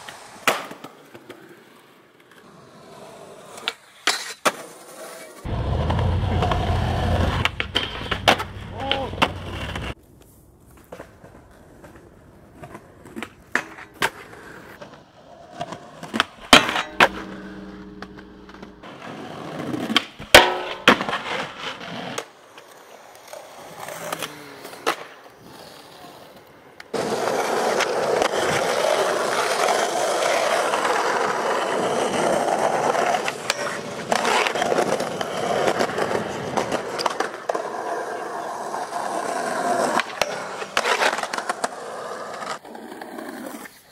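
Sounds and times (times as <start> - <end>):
skateboard clacks: 0.0 - 2.5, 3.5 - 10.0, 10.8 - 25.2, 26.8 - 43.7
skateboard wheels rolling: 0.0 - 43.9.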